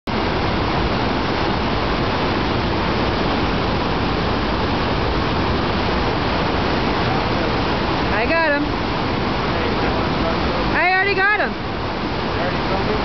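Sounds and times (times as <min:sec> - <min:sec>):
river rapids rushing: 0:00.1 - 0:13.0.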